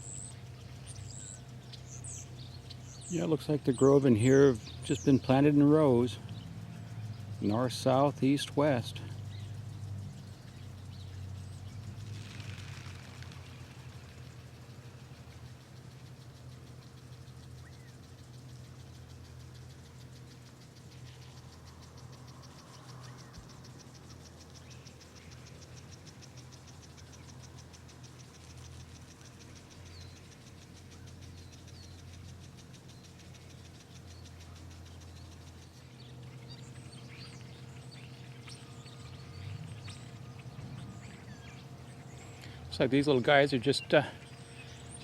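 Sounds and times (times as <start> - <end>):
faint outdoor ambience: 0.0 - 45.0
low mechanical hum: 0.0 - 45.0
small birds chirping: 0.0 - 45.0.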